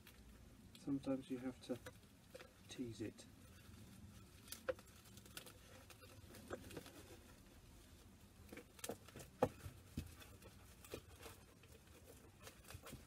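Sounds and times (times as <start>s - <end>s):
cling film crackling: 0.0s - 13.0s.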